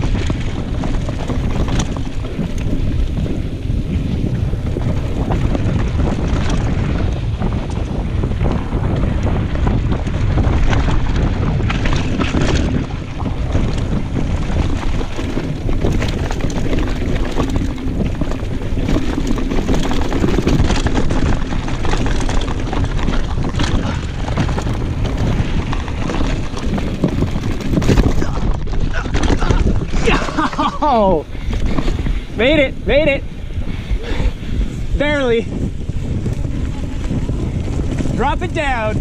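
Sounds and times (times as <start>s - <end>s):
bike rattling and knocking: 0.0s - 39.0s
wind rush on microphone: 0.0s - 39.0s.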